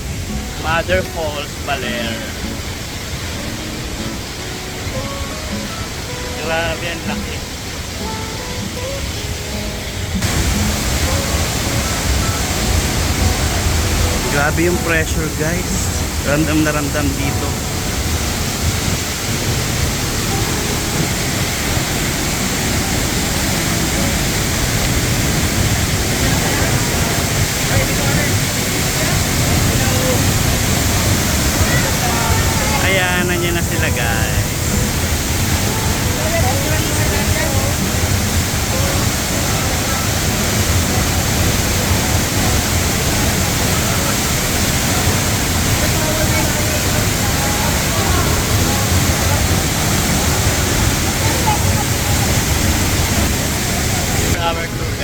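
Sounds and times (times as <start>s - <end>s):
waterfall rushing into pool: 0.0s - 55.0s.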